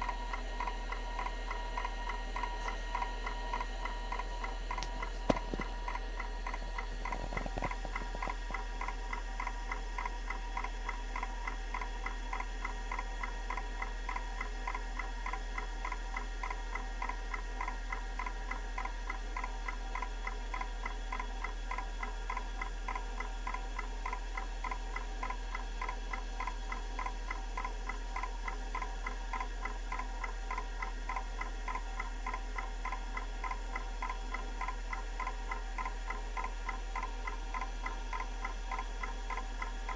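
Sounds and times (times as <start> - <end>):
hard drive ticking: 0.0 - 39.9
hard drive whine and hum: 0.0 - 39.9.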